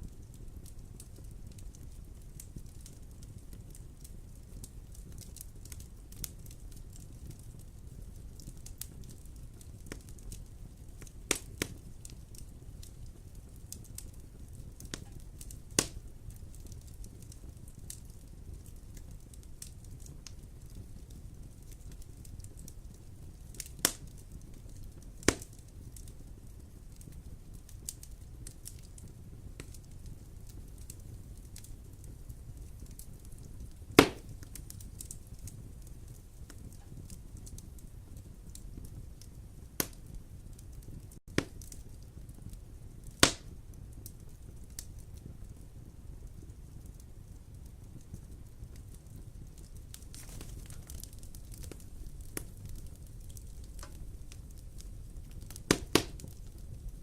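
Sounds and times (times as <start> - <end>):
loud fire pops: 0.0 - 57.0
low fire rumble: 0.0 - 57.0
wood fire crackling: 0.0 - 57.0.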